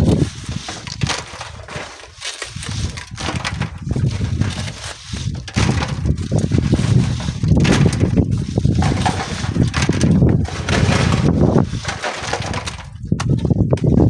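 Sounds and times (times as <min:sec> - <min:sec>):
crunching and scraping: 0:00.0 - 0:14.0
wind buffeting microphone: 0:00.0 - 0:14.0.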